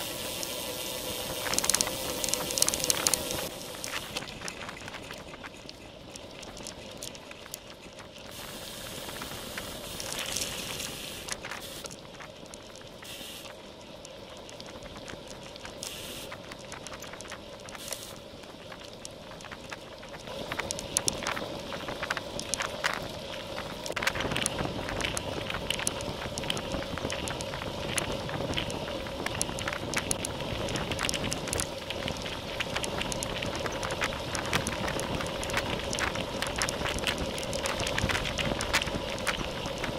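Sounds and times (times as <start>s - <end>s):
bike clicks and rattles: 0.0s - 39.9s
bike tyre rumble: 0.0s - 39.9s
wind noise: 0.0s - 39.9s.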